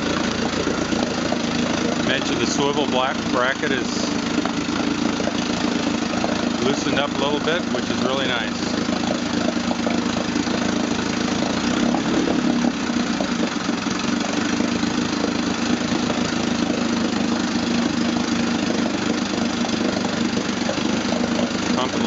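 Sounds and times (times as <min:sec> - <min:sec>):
outboard motor idling: 0:00.0 - 0:22.0
water churning: 0:00.0 - 0:22.0.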